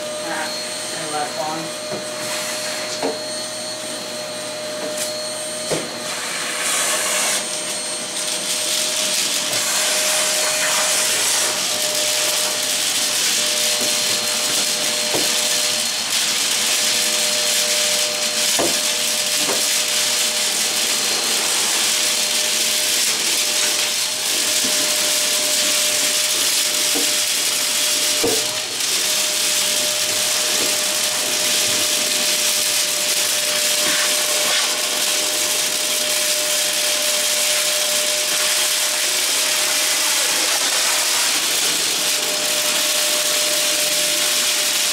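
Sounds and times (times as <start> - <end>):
vacuum cleaner whining: 0.0 - 44.9.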